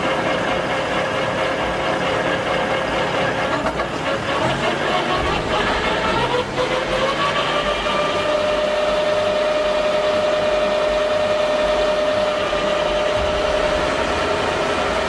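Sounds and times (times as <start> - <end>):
road repair machinery whining: 0.0 - 15.0.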